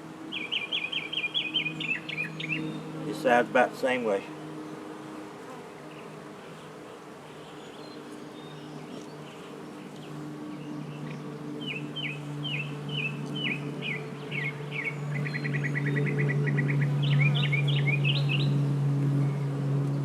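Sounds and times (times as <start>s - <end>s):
bees humming: 0.0s - 20.0s
songbird singing: 0.0s - 20.0s.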